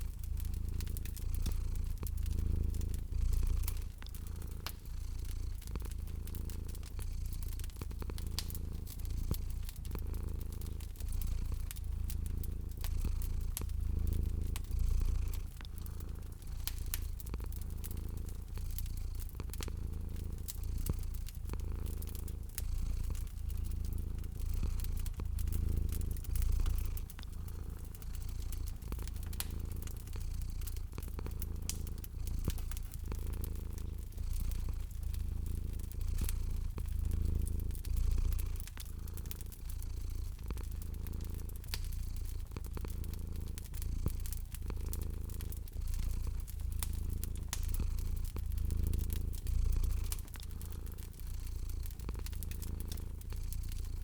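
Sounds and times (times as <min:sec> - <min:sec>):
cat purring: 0:00.0 - 0:54.0
fire crackling: 0:00.0 - 0:54.0.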